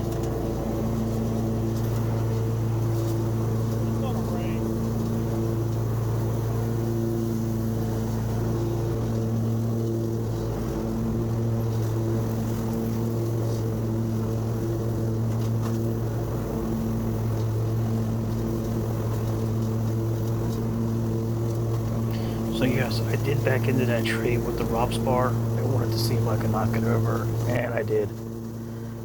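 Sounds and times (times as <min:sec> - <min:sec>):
lawn mower engine running: 0:00.0 - 0:29.0.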